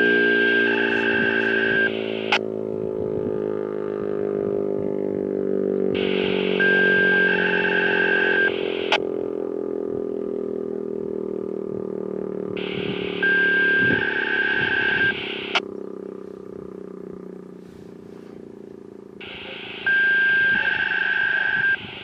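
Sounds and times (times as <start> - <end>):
rotating siren test tone: 0.0 - 4.0, 6.0 - 17.5, 19.2 - 22.0.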